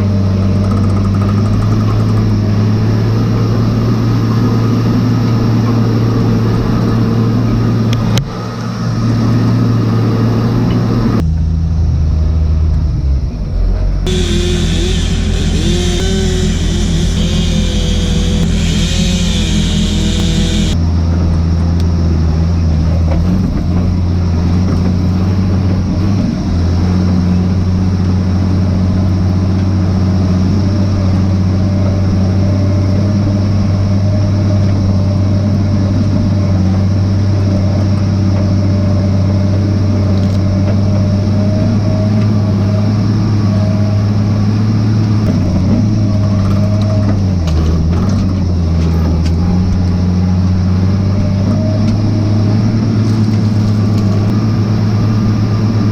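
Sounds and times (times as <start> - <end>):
diesel engine running steadily: 0.0 - 55.9.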